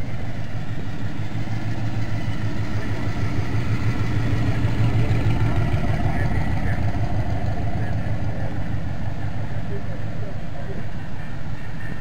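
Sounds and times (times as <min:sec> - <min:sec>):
hot rod engine rumbling past: 0:00.0 - 0:12.0.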